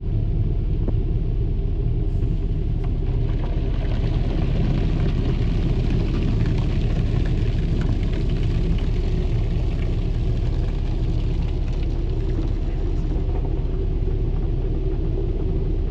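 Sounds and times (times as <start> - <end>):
car wash low rumble: 0.0 - 15.9.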